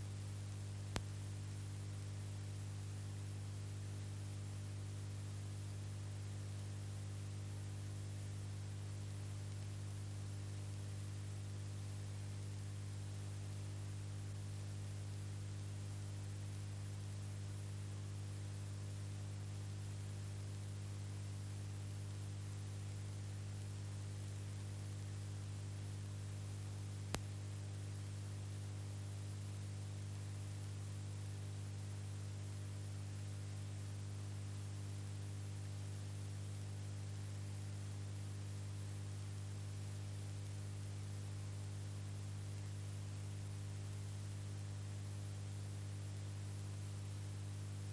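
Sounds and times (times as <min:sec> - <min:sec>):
electrical hum with hiss: 0:00.0 - 0:47.9.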